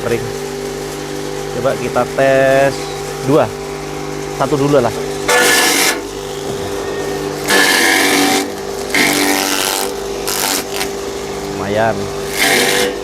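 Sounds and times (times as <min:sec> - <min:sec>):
electric grass chopper motor hum: 0:00.0 - 0:13.0
blades shredding grass: 0:00.9 - 0:13.0.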